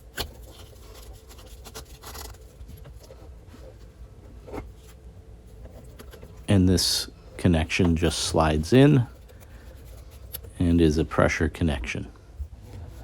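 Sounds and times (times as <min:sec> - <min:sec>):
faint steady hum: 0:00.0 - 0:13.0
plumbing parts rubbing and scraping: 0:00.0 - 0:13.0.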